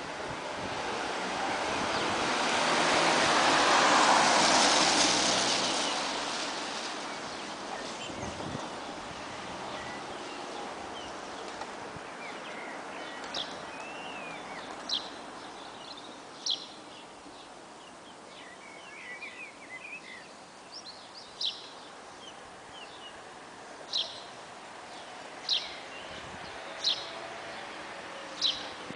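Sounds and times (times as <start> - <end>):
outdoor background noise: 0.0 - 28.9.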